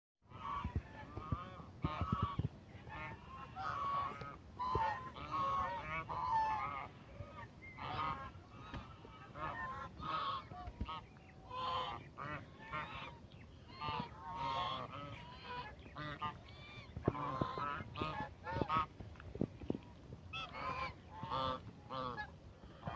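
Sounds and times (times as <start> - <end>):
geese honking: 0.3 - 19.0, 20.3 - 22.9.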